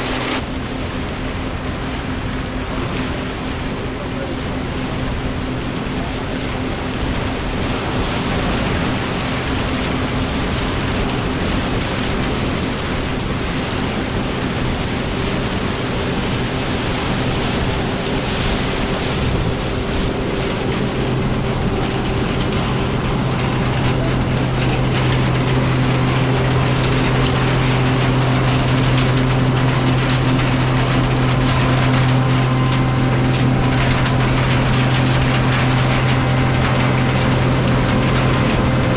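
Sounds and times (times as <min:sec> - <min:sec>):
combine harvester roar: 0:00.0 - 0:38.9
low engine hum: 0:00.0 - 0:38.9.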